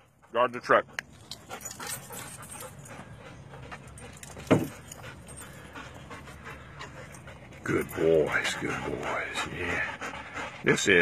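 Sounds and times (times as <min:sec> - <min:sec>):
dogs panting: 0:00.0 - 0:11.0.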